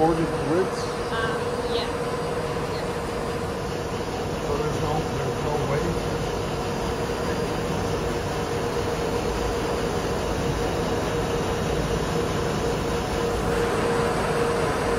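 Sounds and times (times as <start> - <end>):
film slitting machine running: 0.0 - 14.9.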